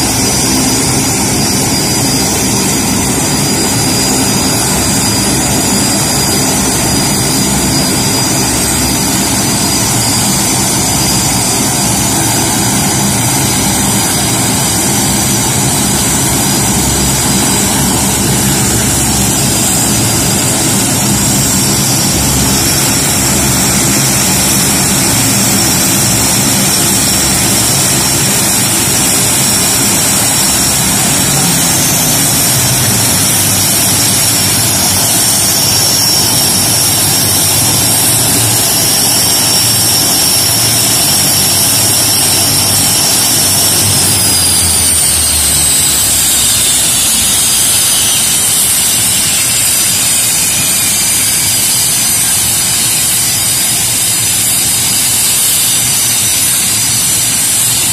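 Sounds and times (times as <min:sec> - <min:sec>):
jet engine rush and whine: 0:00.0 - 0:57.9.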